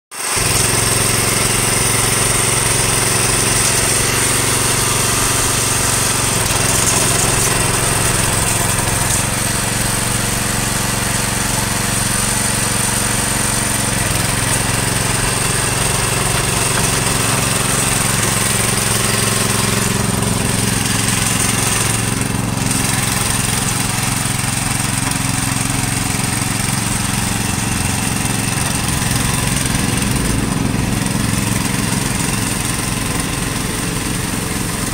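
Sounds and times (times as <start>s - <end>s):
small petrol engine running: 0.1s - 34.9s.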